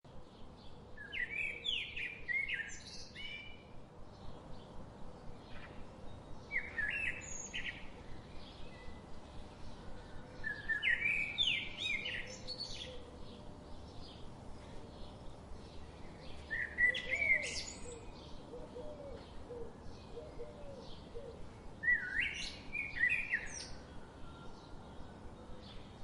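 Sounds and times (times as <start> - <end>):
birds chirping: 4.1 - 26.0.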